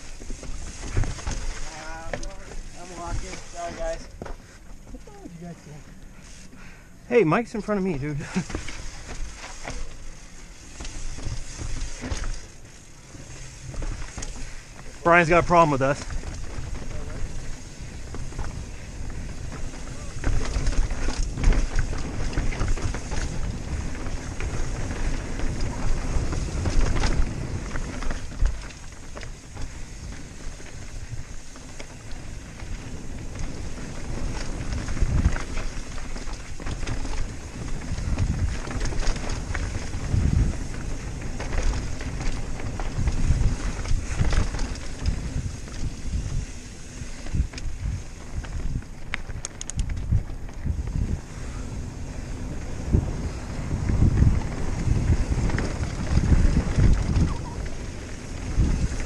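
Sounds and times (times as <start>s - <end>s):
bike knocks and rattles: 0.0s - 5.1s, 8.2s - 59.0s
bike tyres rolling over dirt: 0.0s - 59.0s
wind rumbling on microphone: 0.0s - 59.0s.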